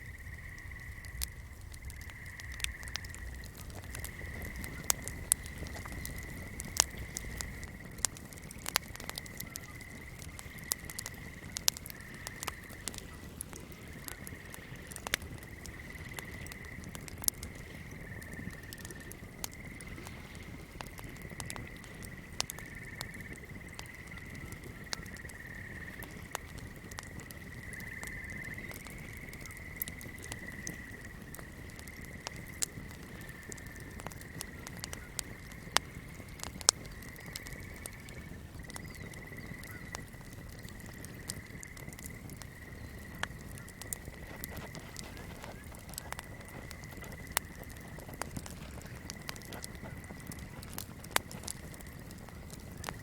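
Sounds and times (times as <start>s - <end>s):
fire crackling with pops: 0.0s - 53.0s
swamp night chorus: 0.0s - 53.0s.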